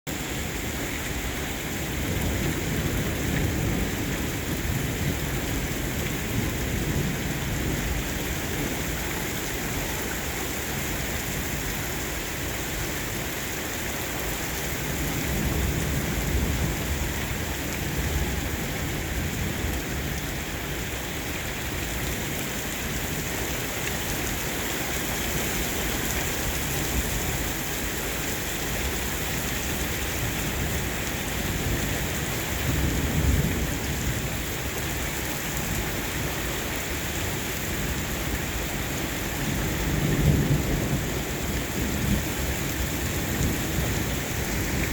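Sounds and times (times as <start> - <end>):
heavy rain falling: 0.1 - 44.9.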